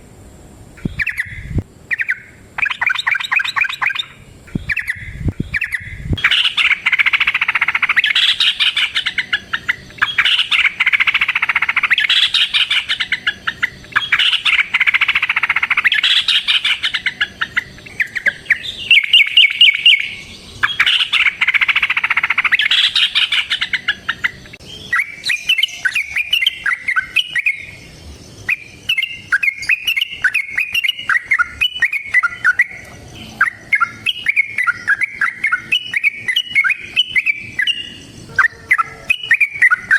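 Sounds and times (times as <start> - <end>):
bulbul singing chattering phrases: 0.7 - 39.9.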